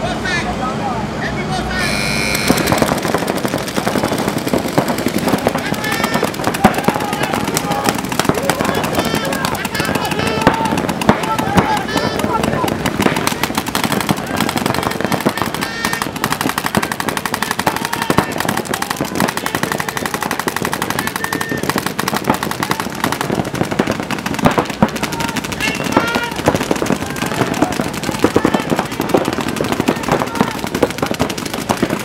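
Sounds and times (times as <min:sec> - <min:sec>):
paintball markers firing: 0:02.3 - 0:32.0.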